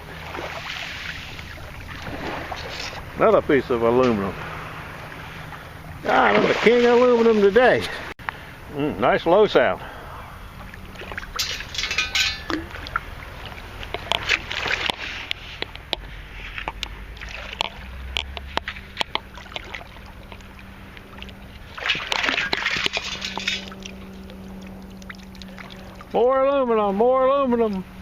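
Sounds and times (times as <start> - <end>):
water sloshing: 0.0 - 8.2, 10.3 - 26.3.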